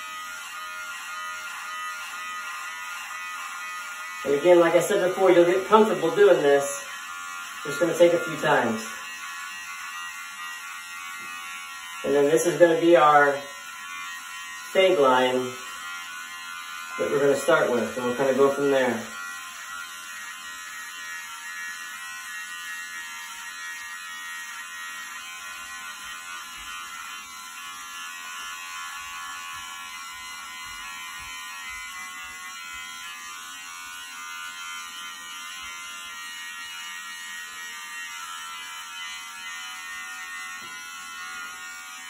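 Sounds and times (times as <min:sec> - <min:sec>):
electric beard trimmer cutting hair: 0:00.0 - 0:42.0.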